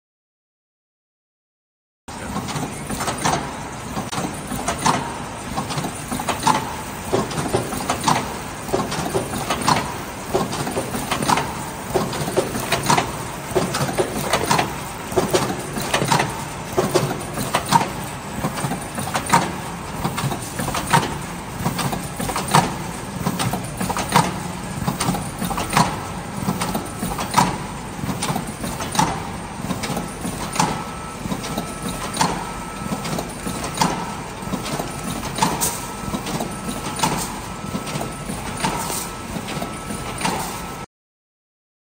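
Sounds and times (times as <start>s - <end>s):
machine mechanical clatter: 2.1s - 40.8s
machine knocking: 2.2s - 40.4s.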